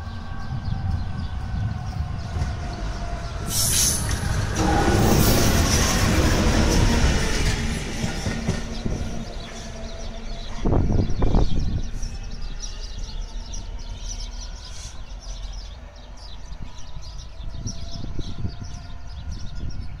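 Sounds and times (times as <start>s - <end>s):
birds chirping: 0.0s - 20.0s
diesel locomotive rumble: 0.0s - 20.0s.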